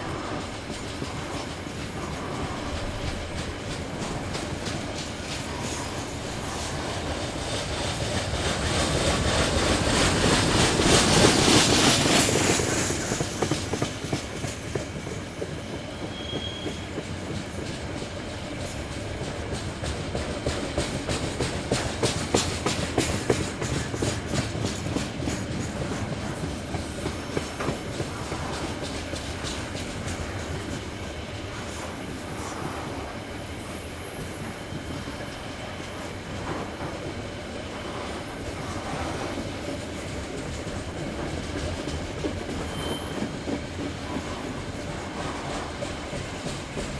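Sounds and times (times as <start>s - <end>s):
train rumbling past: 0.0s - 46.9s
wheels clicking over rail joints: 0.6s - 35.4s, 36.4s - 46.9s.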